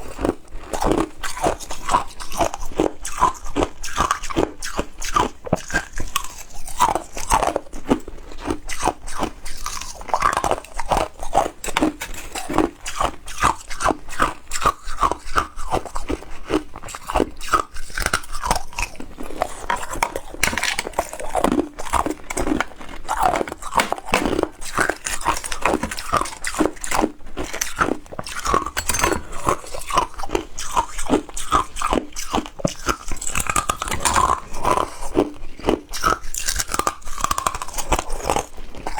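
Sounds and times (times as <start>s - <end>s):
ice crunching between teeth: 0.0s - 38.9s.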